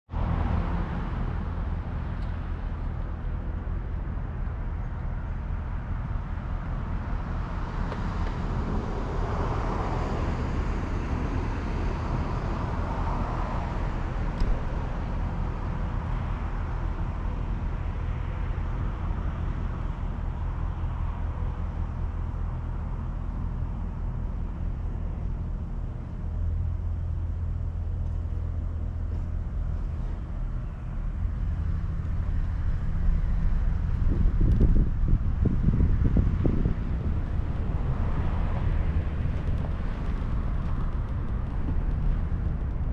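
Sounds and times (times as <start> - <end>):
vehicle engine humming: 0.1 - 42.9.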